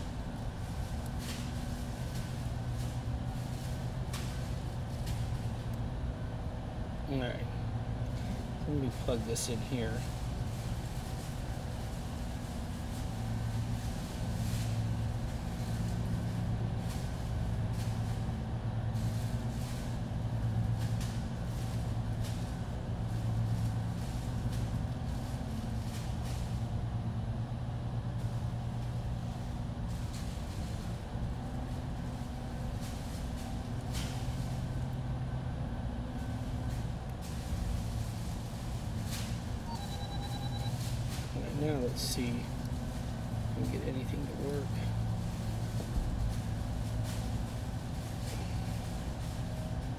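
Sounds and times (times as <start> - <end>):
low droning machinery hum: 0.0 - 49.9.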